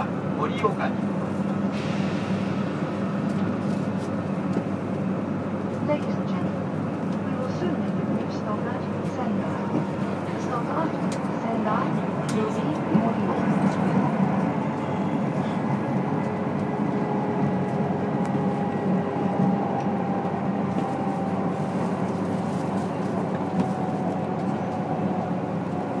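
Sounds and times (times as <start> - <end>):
train interior rumble: 0.0 - 26.0.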